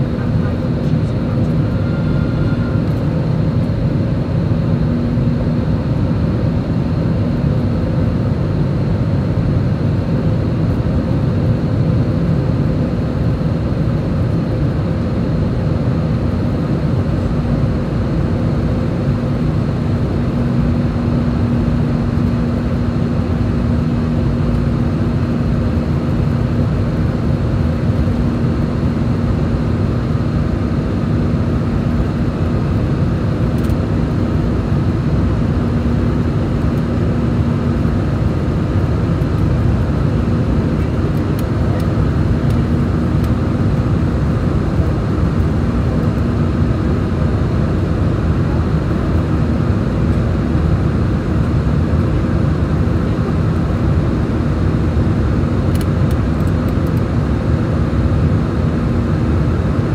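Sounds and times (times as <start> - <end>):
airplane cabin engine roar: 0.0 - 59.9
constant low hum: 0.0 - 59.9.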